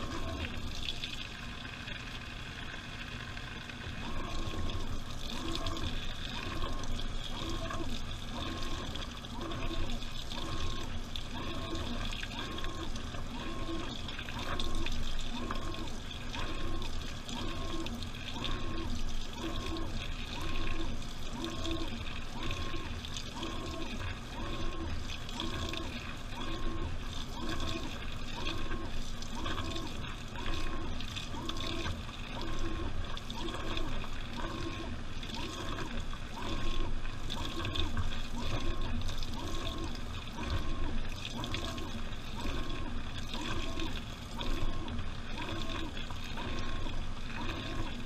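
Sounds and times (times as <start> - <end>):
washing machine rumble: 0.0 - 48.0
water sloshing in washing machine: 0.0 - 48.0.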